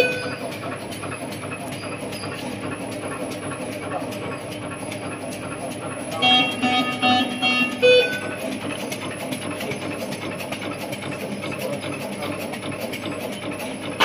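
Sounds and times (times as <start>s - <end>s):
cutting machine clattering and clicking: 0.0s - 14.0s.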